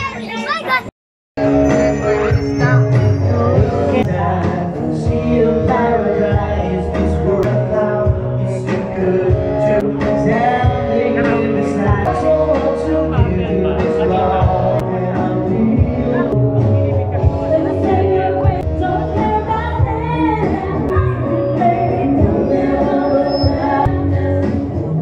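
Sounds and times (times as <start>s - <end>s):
guitar accompaniment: 1.4s - 25.0s
person singing: 1.6s - 25.0s.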